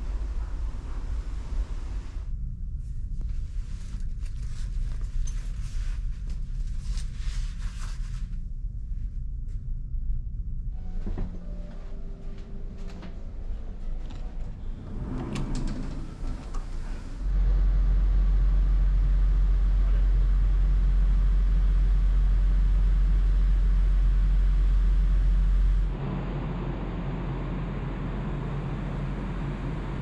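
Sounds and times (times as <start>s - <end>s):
ferry engine low rumble: 0.0s - 30.0s
ship interior hum: 0.0s - 30.0s.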